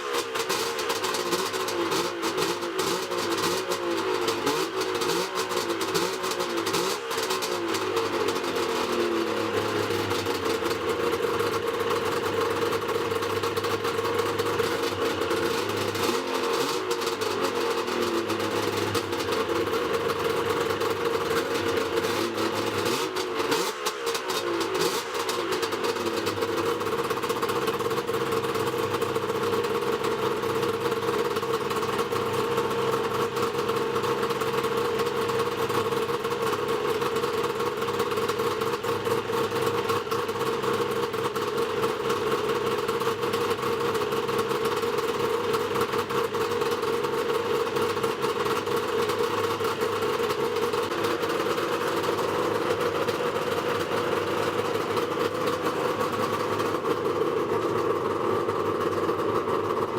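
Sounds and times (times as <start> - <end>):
snowmobile engine idling: 0.0 - 59.9.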